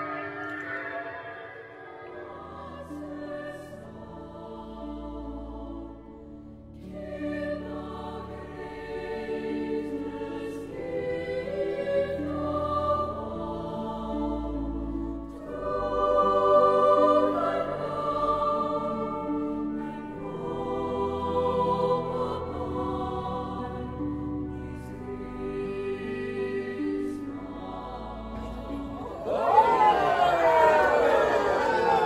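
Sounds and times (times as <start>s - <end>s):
choir singing held chords: 0.0s - 32.0s.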